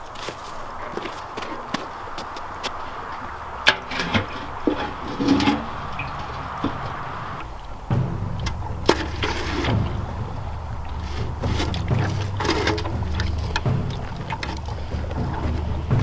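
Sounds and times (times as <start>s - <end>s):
ice and snow crunching: 0.0s - 16.0s
wind rumbling on microphone: 0.0s - 16.0s.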